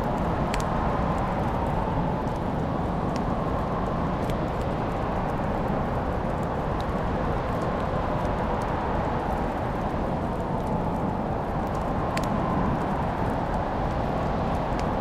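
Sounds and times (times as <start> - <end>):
fire crackles and pops: 0.0 - 15.0
fire flames rushing: 0.0 - 15.0.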